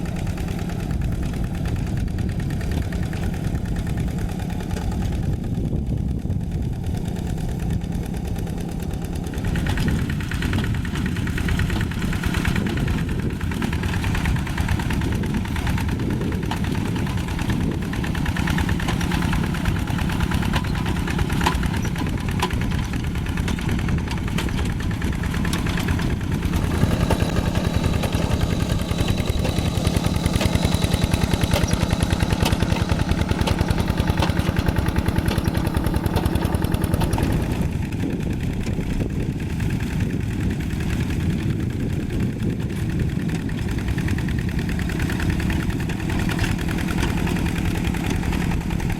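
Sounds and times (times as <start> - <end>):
diesel tractor engine chugging: 0.0 - 48.9.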